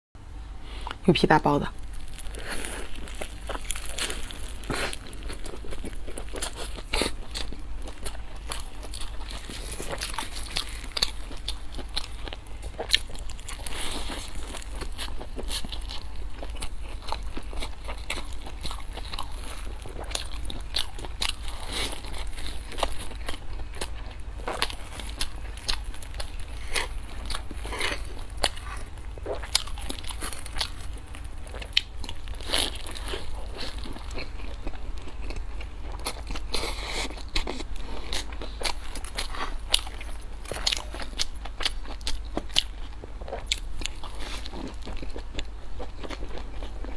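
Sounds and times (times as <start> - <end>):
low steady hum: 0.2 - 46.9
chewing crunchy bun: 1.7 - 46.9.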